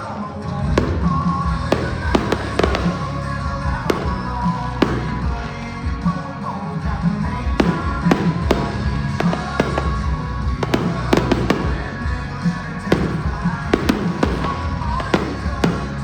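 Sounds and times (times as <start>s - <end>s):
fireworks bangs and cracks: 0.4s - 16.0s
loud music with steady beat: 0.6s - 16.0s.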